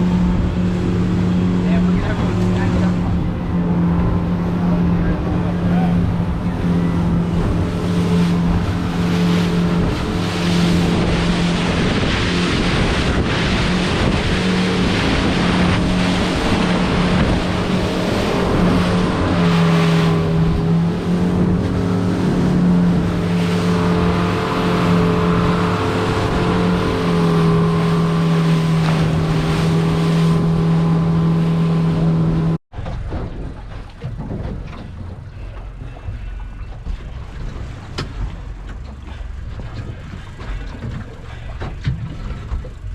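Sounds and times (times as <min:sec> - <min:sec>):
wind on microphone: 0:00.0 - 0:38.6
boat motor humming: 0:00.0 - 0:42.9.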